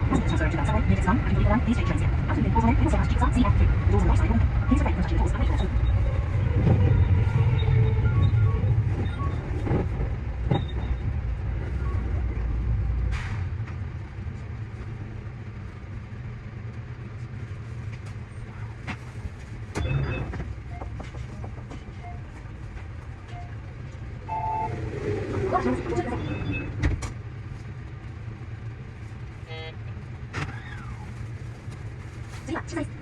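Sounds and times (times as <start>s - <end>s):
electric train rumbling on rails: 0.0s - 33.0s.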